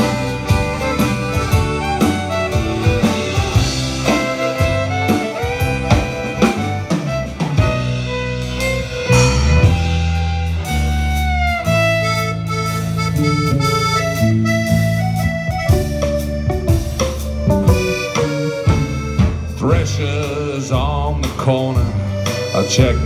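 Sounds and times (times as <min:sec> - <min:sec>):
accordion: 0:00.0 - 0:23.0
acoustic guitars: 0:00.0 - 0:23.0
drum kit beat: 0:00.0 - 0:23.0.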